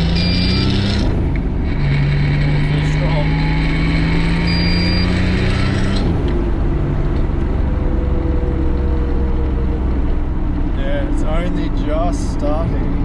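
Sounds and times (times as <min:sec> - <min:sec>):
car engine rumble while driving: 0:00.0 - 0:13.0.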